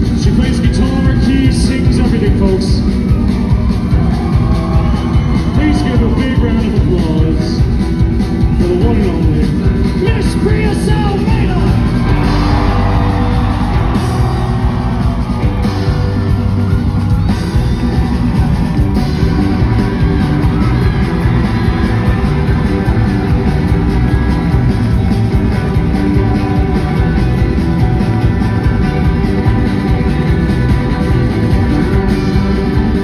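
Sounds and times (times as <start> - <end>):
country-rock band playing: 0.0 - 33.0.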